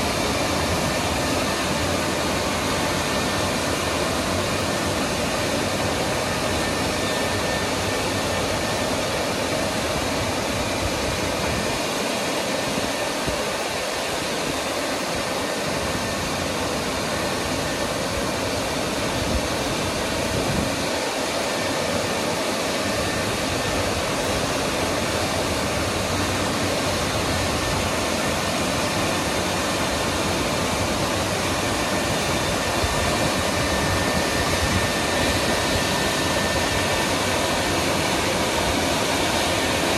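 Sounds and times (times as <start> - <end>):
car wash machinery rushing: 0.0 - 39.9.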